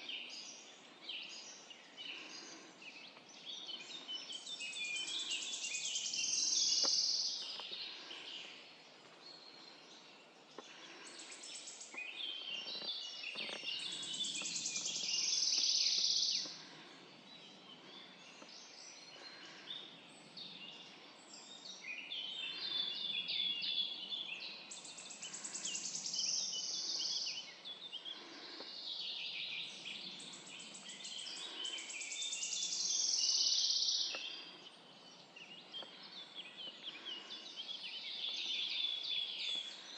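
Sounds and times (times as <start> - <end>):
quiet bird calls: 0.0 - 39.9.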